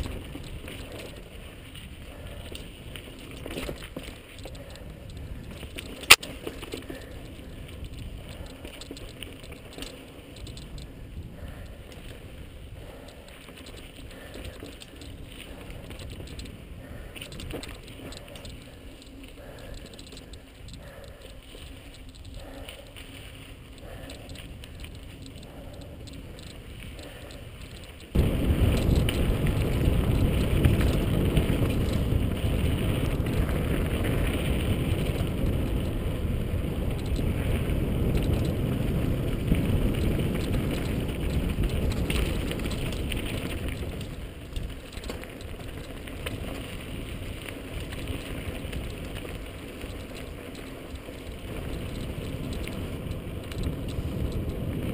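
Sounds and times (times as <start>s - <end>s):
bike tyres crunching over dirt: 0.0s - 54.9s
wind rumble on microphone: 0.0s - 54.9s.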